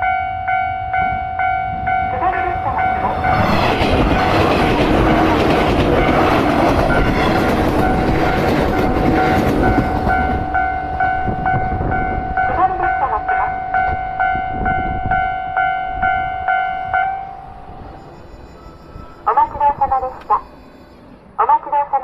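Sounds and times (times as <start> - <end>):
electronic crossing warning bell: 0.0 - 4.5, 5.8 - 20.7
electric train passing: 0.0 - 22.0.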